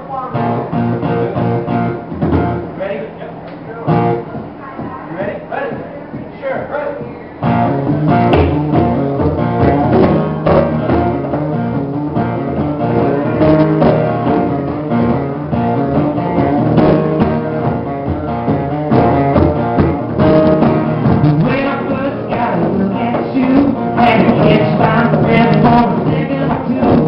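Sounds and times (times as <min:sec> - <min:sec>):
acoustic guitar strumming: 0:00.0 - 0:27.0
conga drums played by hand: 0:00.8 - 0:02.8, 0:03.9 - 0:27.0.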